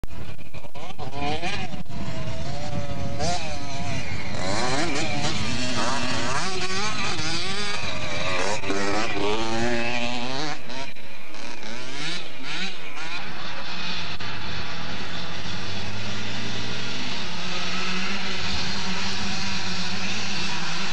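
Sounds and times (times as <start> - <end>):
motocross bikes revving: 0.0 - 20.9.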